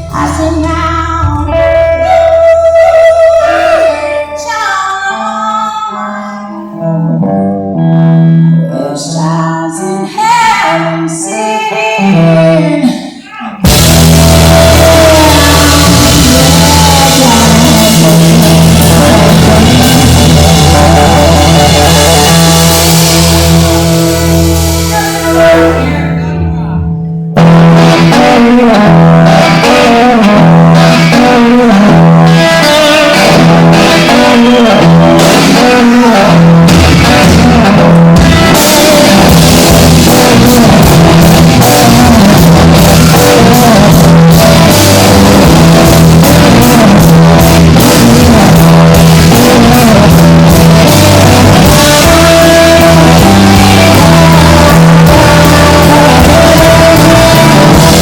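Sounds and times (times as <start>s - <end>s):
rock music on guitar bass and drums: 0.0s - 4.6s, 6.8s - 8.6s, 13.6s - 26.1s, 27.1s - 58.0s.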